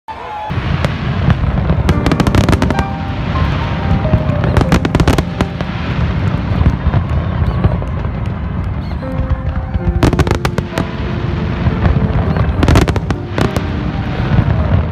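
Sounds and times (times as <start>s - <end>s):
fireworks crackling: 0.5s - 14.9s
fireworks rumbling: 0.5s - 14.9s.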